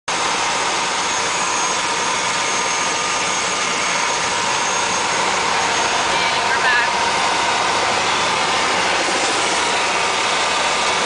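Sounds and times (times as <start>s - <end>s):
helicopter engine whine: 0.1s - 11.0s.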